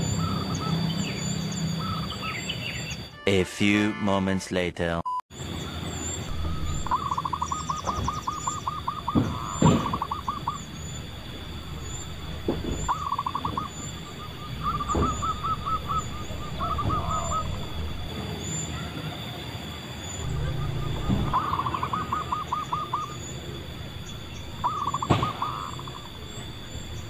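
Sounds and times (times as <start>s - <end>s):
dove cooing rolling notes: 0.0s - 3.1s, 5.4s - 27.0s
faint high bird chirps: 0.0s - 3.2s, 5.4s - 27.0s.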